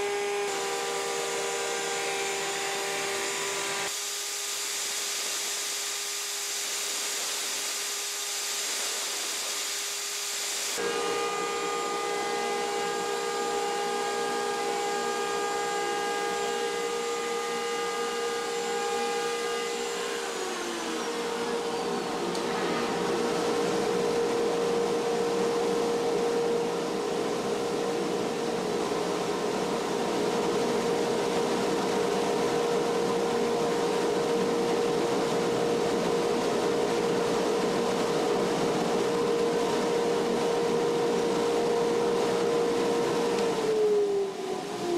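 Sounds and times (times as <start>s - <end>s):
electric motors whining: 0.0s - 44.9s
router carving wood: 0.0s - 44.9s.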